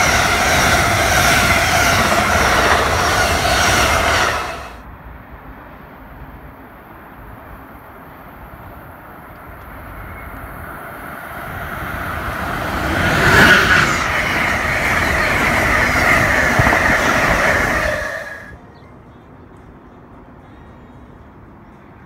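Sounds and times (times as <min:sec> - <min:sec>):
passenger train passing at speed: 0:00.0 - 0:22.0.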